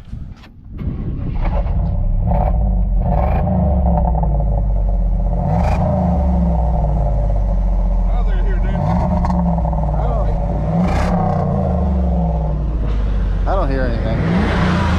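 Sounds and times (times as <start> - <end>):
car engine accelerating hard: 0.8 - 14.9.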